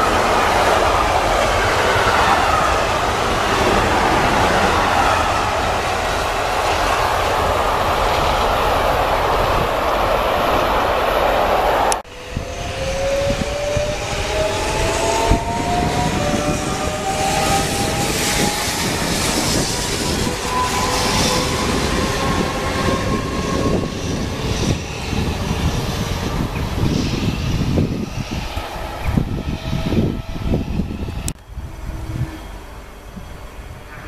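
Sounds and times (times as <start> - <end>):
electric train motors whining: 0.0 - 34.0
wheel and rail rumble: 0.0 - 34.0.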